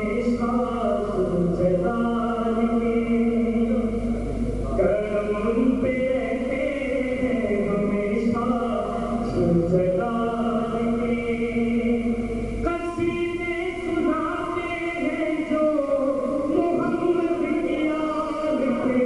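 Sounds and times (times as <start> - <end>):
man singing a chant: 0.0 - 4.0, 4.7 - 19.0.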